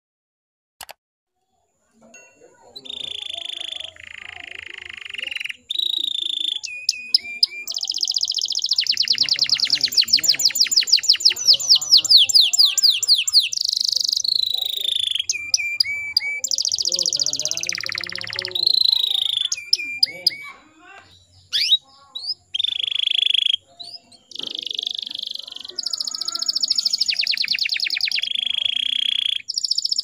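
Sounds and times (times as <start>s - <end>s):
canary singing trills: 2.4s - 30.0s.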